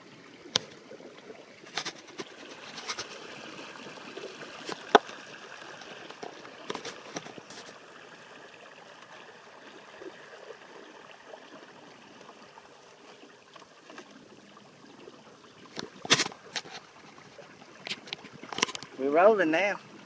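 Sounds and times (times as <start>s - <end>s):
water trickling along hull: 0.0s - 20.0s.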